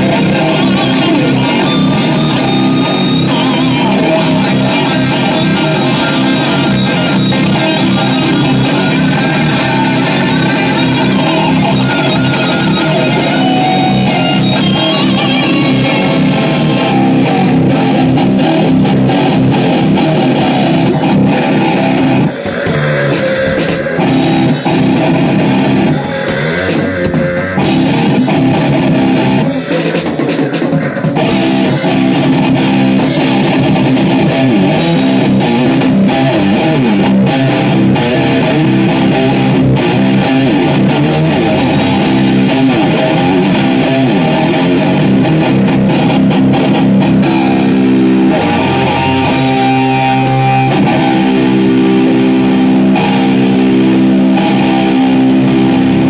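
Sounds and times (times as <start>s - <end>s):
electric bass: 0.0s - 56.0s
electric guitar: 0.0s - 56.0s.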